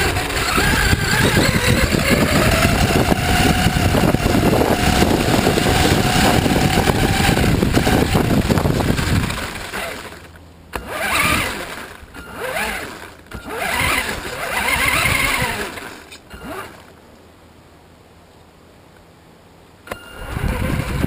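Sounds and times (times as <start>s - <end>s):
rc car motor whining: 0.0s - 16.9s, 19.9s - 21.0s.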